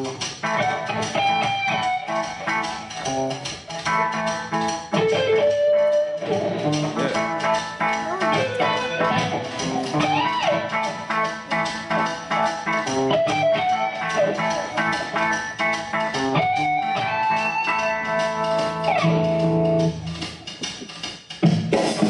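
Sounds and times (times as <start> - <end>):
bluesy guitar picking: 0.0 - 21.0.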